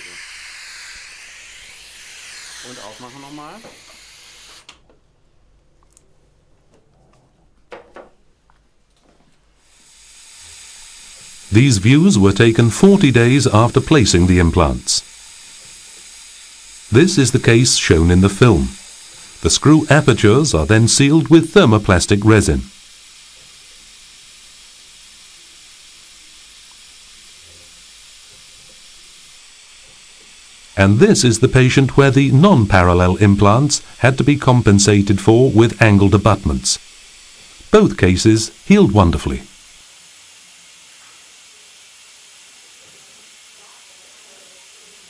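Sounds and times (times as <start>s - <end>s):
recording hiss: 0.0s - 6.4s, 7.7s - 45.0s.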